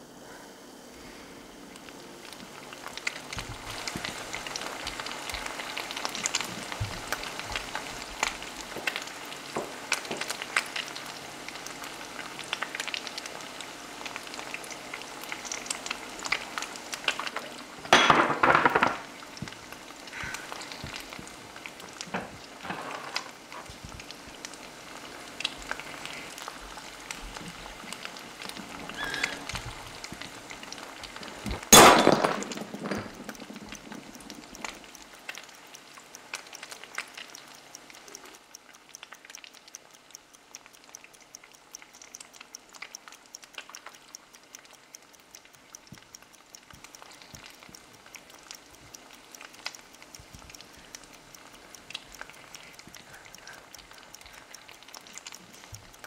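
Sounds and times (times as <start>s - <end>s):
frying pan sizzling and popping: 1.0s - 56.0s.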